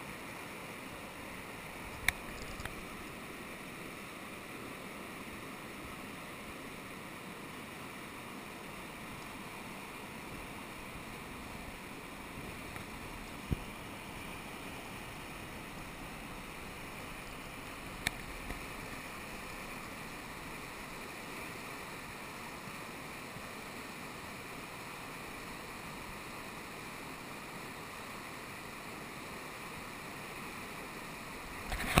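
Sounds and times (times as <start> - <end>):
river rapids rushing: 0.0 - 32.0.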